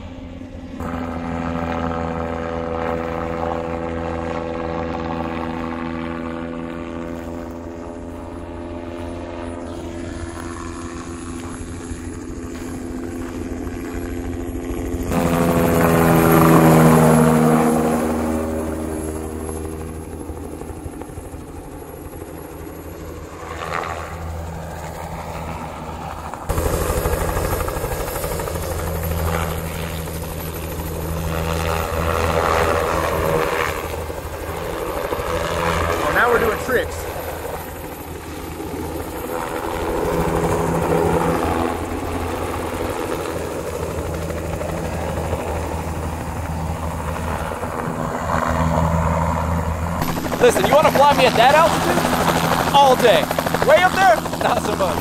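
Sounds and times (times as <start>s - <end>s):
helicopter rotor beating: 0.0s - 55.0s.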